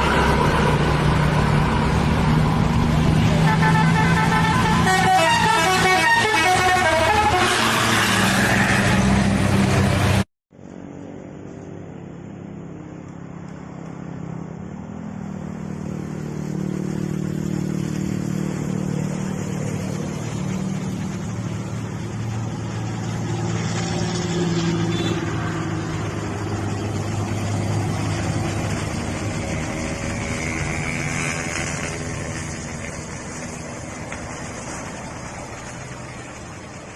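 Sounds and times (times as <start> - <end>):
bus engine climbing hill: 0.0 - 36.9.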